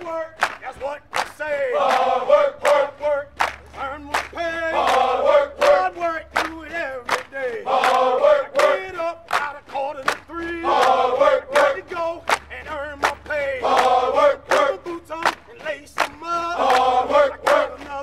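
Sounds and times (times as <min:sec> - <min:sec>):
fast steady beat: 0:00.0 - 0:18.0
group of voices chanting: 0:00.0 - 0:18.0.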